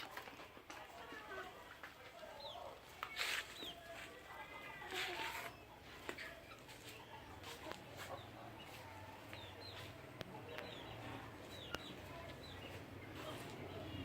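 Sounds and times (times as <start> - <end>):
chickens chirping: 0.0 - 14.0.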